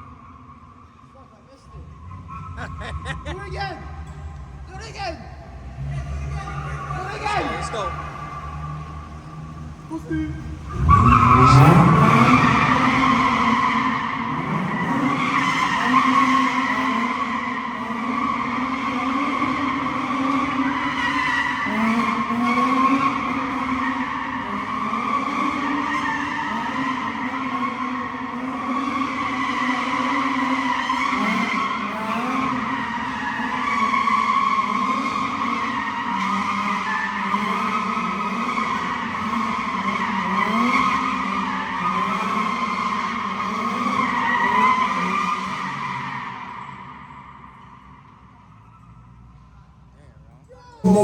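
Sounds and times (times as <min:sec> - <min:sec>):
car tyres squealing: 0:00.0 - 0:51.0
car engine revving high: 0:01.4 - 0:48.5.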